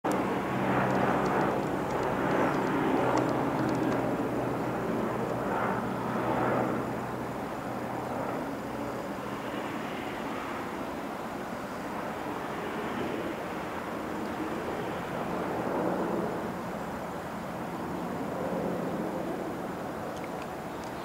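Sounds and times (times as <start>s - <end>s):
helicopter flying overhead: 0.0s - 21.0s.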